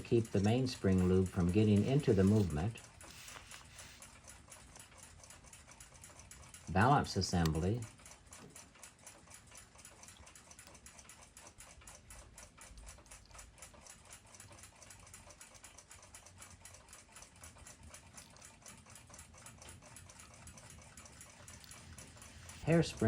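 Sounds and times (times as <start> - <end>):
mechanical clock ticking: 0.0 - 23.0.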